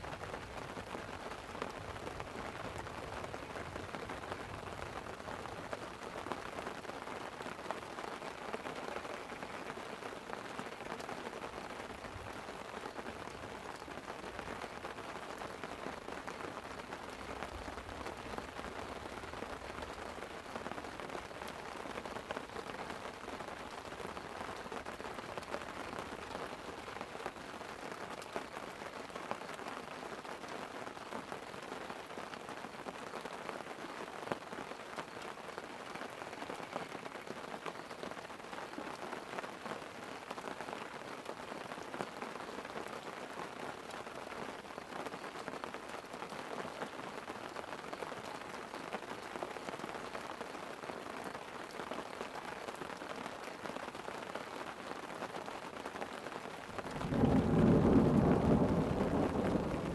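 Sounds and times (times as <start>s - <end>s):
light rain on a tent: 0.0s - 59.9s.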